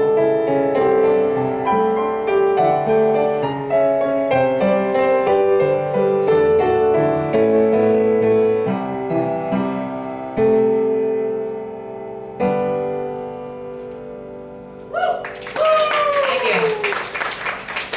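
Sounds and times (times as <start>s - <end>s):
piano chords: 0.0s - 17.9s.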